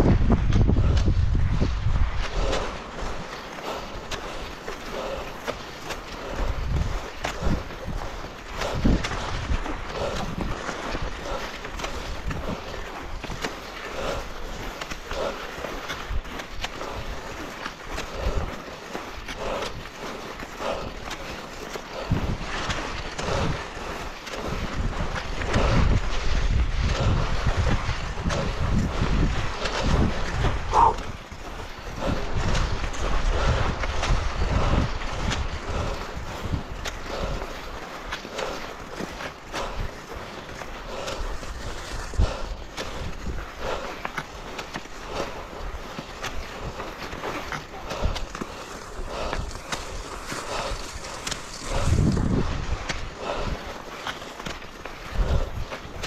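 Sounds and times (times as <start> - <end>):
skis scraping over snow: 0.0 - 56.0
wind buffeting microphone: 0.0 - 56.0.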